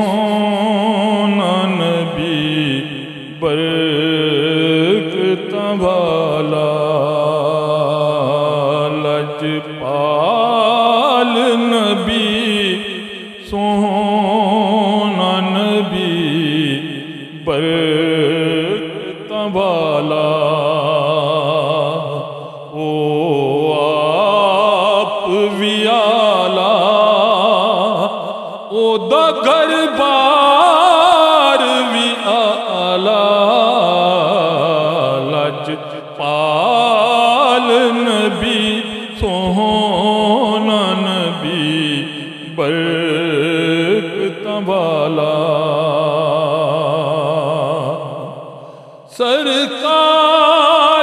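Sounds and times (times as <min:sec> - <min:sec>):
man singing with vibrato: 0:00.0 - 0:51.0.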